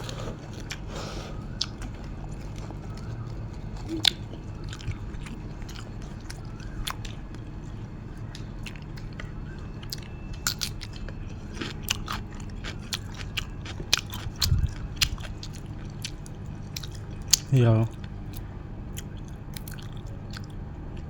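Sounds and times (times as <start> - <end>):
person chewing food: 0.0 - 21.0
steady low hum: 0.0 - 21.0.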